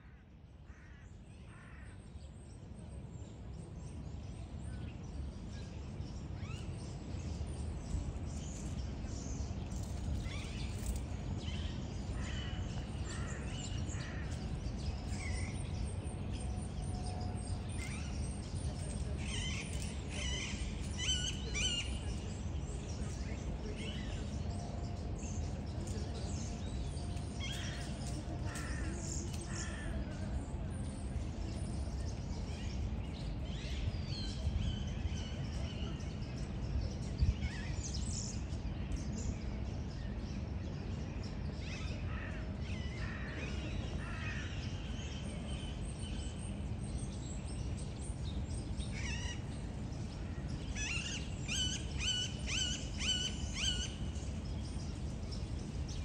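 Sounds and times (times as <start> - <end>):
steady low rumble: 2.0 - 56.0.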